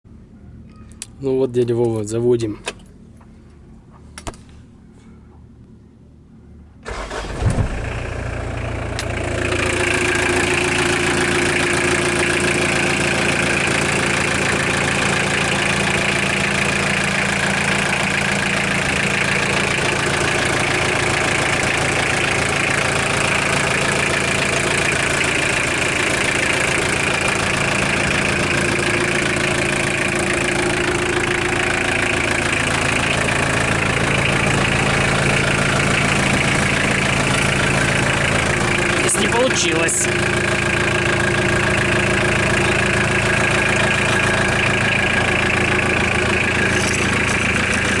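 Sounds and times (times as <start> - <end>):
truck engine cranking and idling: 6.6 - 48.0.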